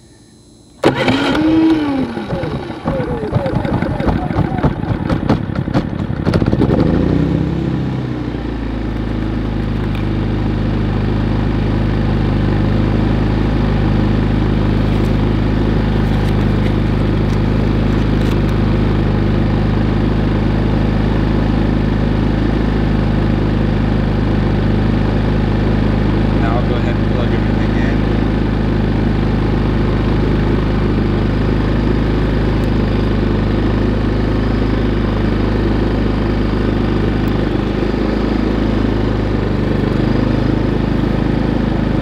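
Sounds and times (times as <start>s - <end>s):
generator engine running: 0.0s - 42.0s.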